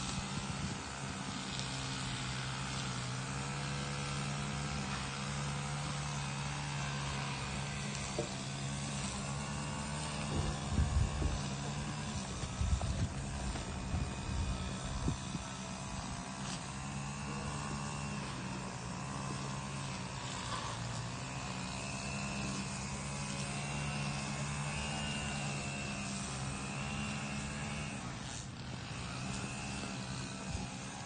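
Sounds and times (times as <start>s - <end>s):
steady engine drone: 0.0s - 31.0s.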